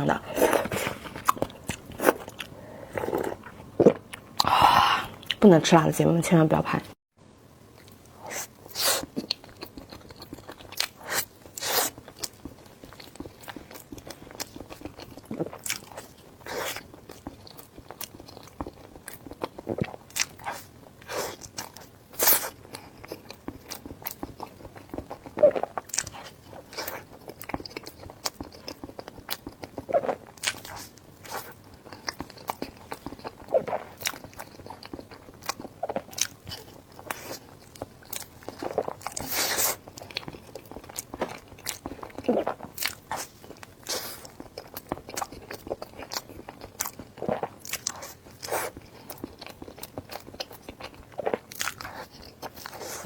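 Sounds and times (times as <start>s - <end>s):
wet chewing and mouth smacks: 8.7s - 53.0s.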